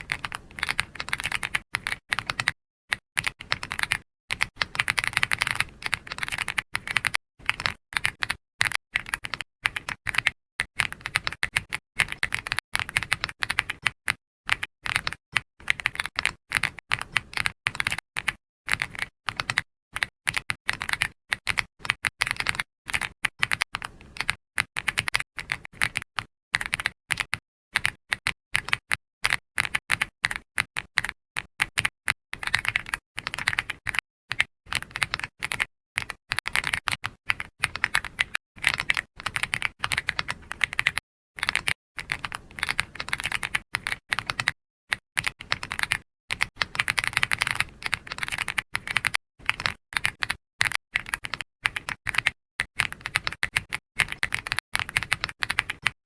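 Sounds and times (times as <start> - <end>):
typing on computer keyboard: 0.0 - 56.0.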